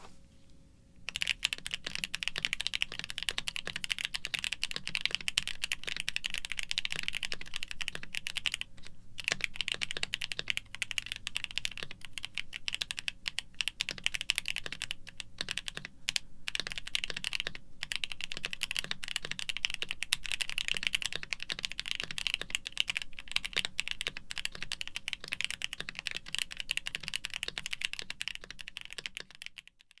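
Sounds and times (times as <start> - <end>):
mechanical keyboard typing: 1.1 - 30.0.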